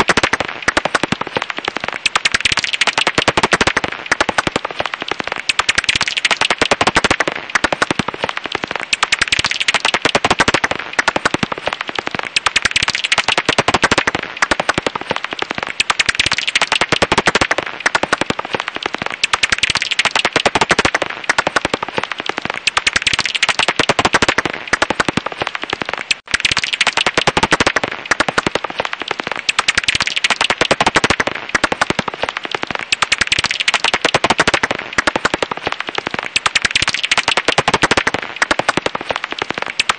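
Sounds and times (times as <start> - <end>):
bat calls rapid clicks: 0.0 - 39.9.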